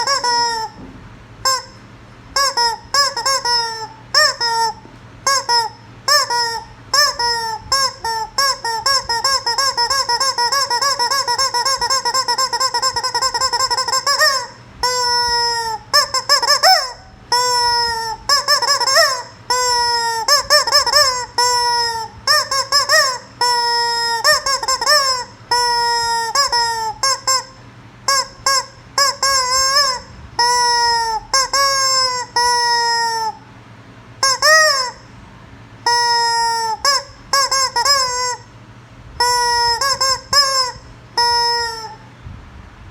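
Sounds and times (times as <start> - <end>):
rubber chicken toy squawking: 0.0 - 0.8, 1.4 - 33.4, 34.2 - 35.1, 35.8 - 38.5, 39.2 - 42.1.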